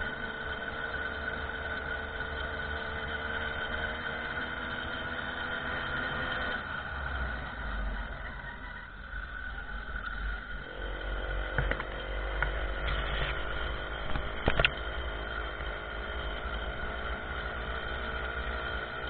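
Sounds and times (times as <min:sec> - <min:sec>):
moped engine running: 0:00.0 - 0:08.3, 0:09.1 - 0:19.0.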